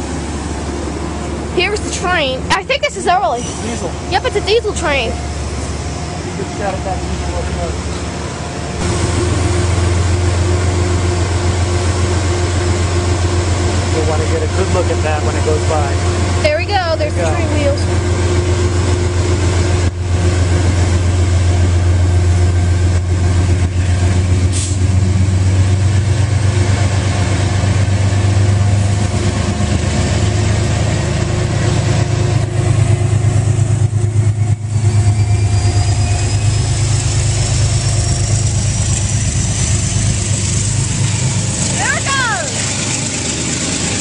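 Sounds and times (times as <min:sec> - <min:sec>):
faint rising whine: 0:00.0 - 0:23.8, 0:30.1 - 0:44.0
diesel locomotive engine drone: 0:00.0 - 0:44.0.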